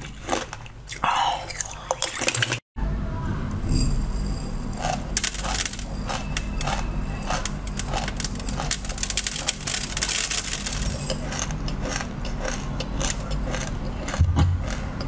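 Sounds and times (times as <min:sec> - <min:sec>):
person chewing crunchy food: 0:00.0 - 0:02.6, 0:04.8 - 0:15.0.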